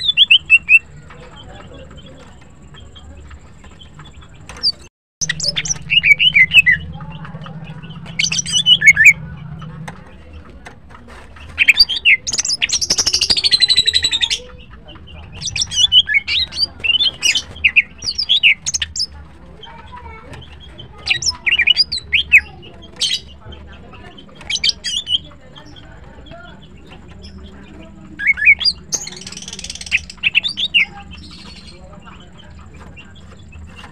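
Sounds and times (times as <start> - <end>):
bird warbling chirps: 0.0 - 10.2, 11.4 - 19.8, 20.7 - 33.9.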